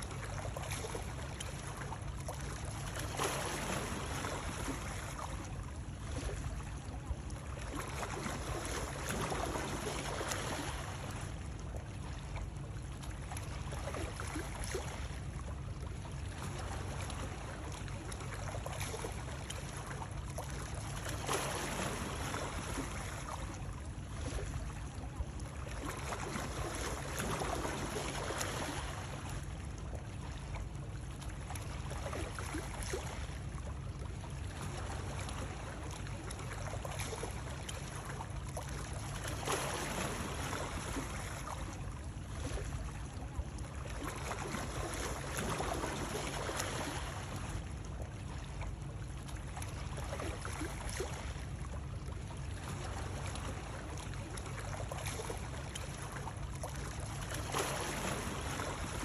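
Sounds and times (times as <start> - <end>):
rushing water with low rumble: 0.0 - 59.0.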